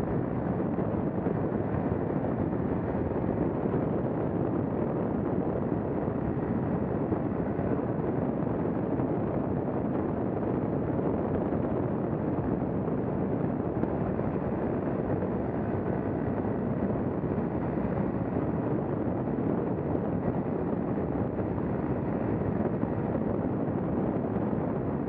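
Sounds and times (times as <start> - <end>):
paramotor engine and propeller: 0.0 - 25.0
wind rushing over microphone: 0.0 - 25.0.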